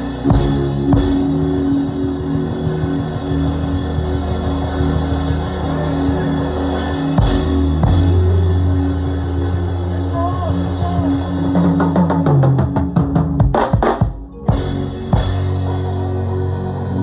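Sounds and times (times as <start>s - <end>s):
backing track with bass and chords: 0.0s - 17.0s
drum kit playing: 0.0s - 17.0s.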